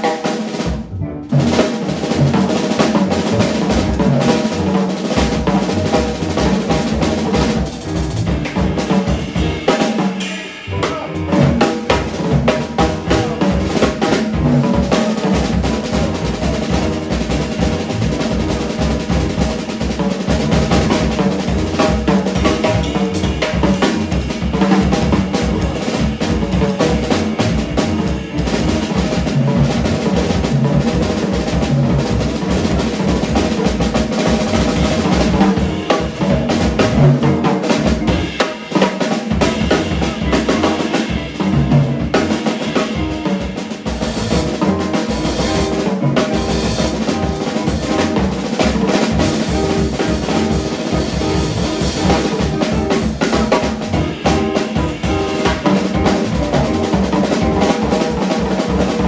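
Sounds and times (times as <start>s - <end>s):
jazz drum kit played hard: 0.0s - 59.0s.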